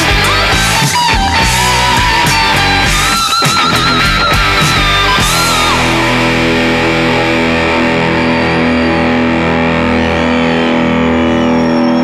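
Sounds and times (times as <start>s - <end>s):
distorted electric guitar: 0.0s - 12.0s.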